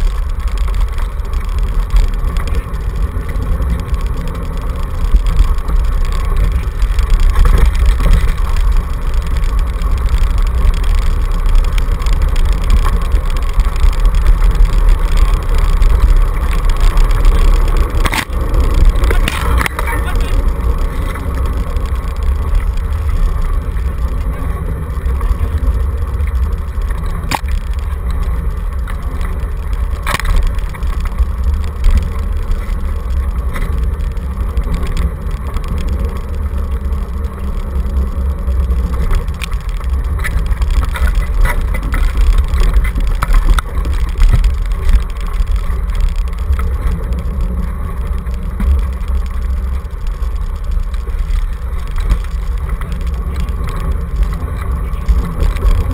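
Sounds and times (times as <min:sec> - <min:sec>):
scooter frame rattling: 0:00.0 - 0:55.9
scooter wheels rumbling on dirt: 0:00.0 - 0:55.9.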